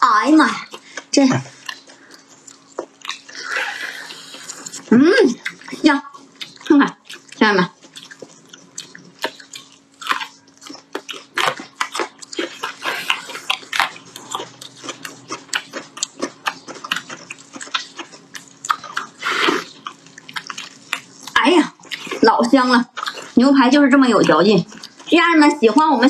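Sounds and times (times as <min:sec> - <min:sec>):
wet chewing clicks and smacks: 0:00.4 - 0:25.9.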